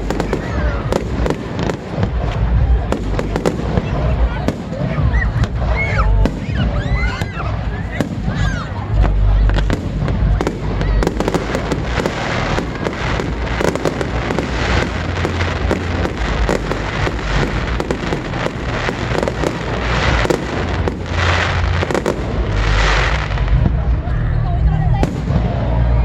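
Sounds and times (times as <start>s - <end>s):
deep fireworks booms: 0.0s - 26.0s
fireworks bangs and crackling: 0.0s - 26.0s.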